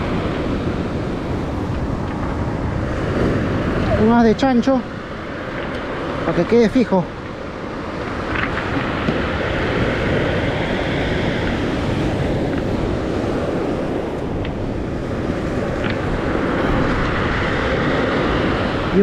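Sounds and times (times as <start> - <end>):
sea surf: 0.0 - 19.0
wind buffeting microphone: 0.0 - 19.0.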